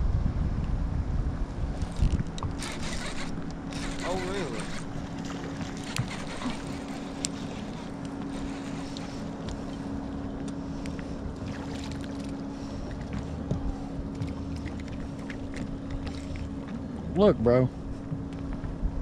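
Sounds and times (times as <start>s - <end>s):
boat motor humming: 1.6s - 19.0s.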